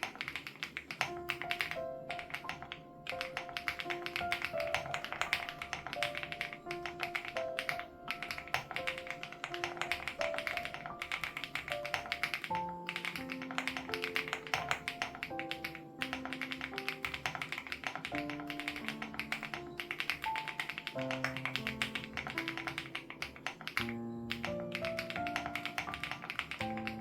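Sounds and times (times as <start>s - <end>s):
soft background music: 0.0s - 27.0s
typing on mechanical keyboard: 0.0s - 27.0s.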